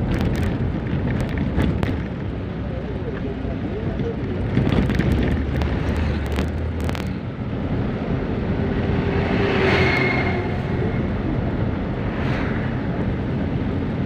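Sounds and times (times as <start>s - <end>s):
motor vehicle engine: 0.0s - 14.0s
outdoor rumble: 0.0s - 14.0s.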